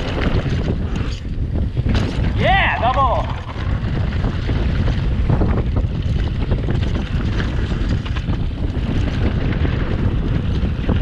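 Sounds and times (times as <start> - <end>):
bike rattles and clicks: 0.0 - 11.0
bike tyres rumbling: 0.0 - 11.0
wind buffeting microphone: 0.0 - 11.0.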